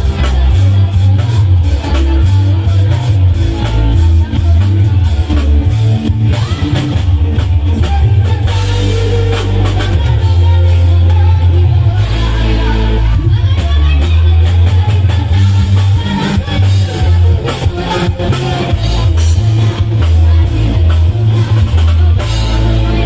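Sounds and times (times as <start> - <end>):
drum beats: 0.0 - 23.0
person singing: 0.0 - 23.0.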